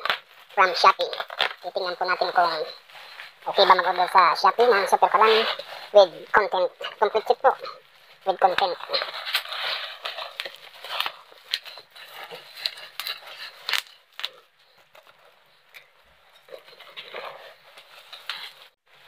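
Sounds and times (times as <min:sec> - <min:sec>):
bubble wrap and tape crinkling: 0:00.0 - 0:19.0.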